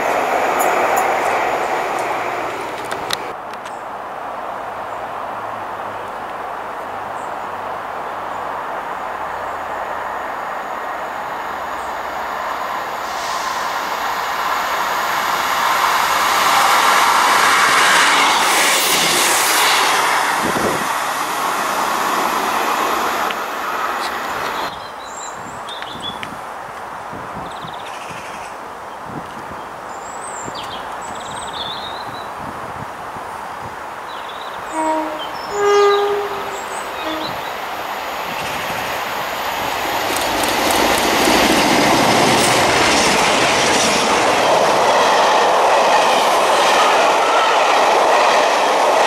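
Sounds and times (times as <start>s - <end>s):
diesel train running past: 0.0s - 24.8s, 33.0s - 49.0s.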